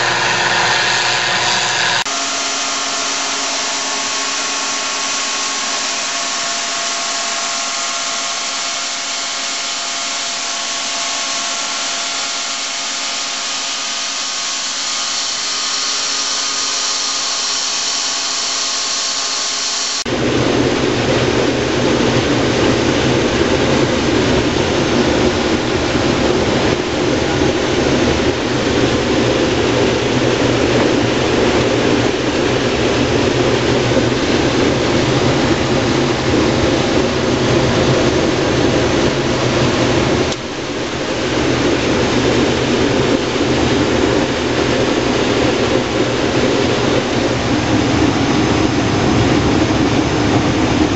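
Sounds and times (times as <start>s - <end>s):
combine harvester rumble: 0.0s - 50.9s
combine harvester whine: 0.0s - 50.9s.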